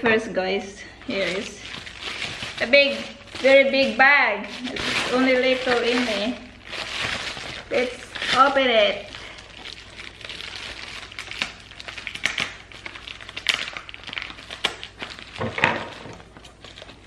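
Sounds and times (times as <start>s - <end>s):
bubble wrap crinkling and rustling: 0.8s - 17.0s.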